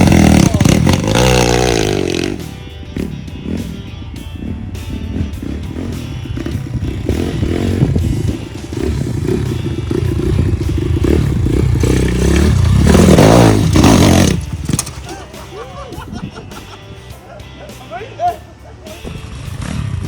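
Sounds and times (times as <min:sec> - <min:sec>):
motorbike engine revving: 0:00.0 - 0:15.5, 0:19.0 - 0:20.0.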